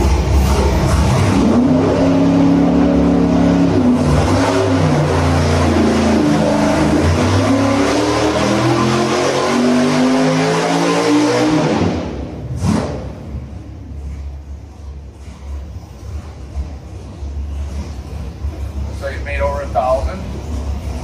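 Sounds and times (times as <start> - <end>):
engine revving on a dyno: 0.0 - 21.0.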